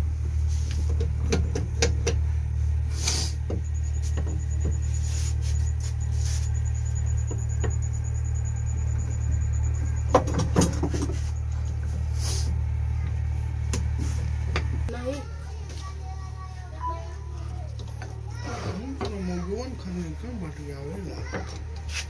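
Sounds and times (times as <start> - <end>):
low steady hum: 0.0 - 21.8.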